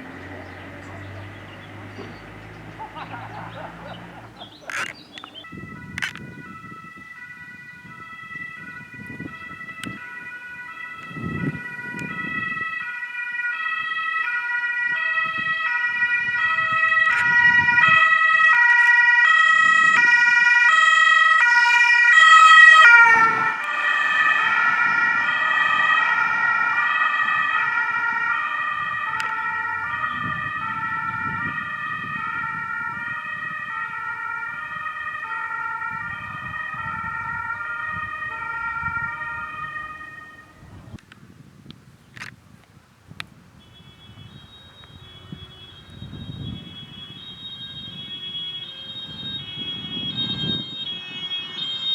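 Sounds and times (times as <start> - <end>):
two-tone siren: 0.0 - 41.0, 43.5 - 51.9
engine and tyres rumbling: 0.0 - 51.9.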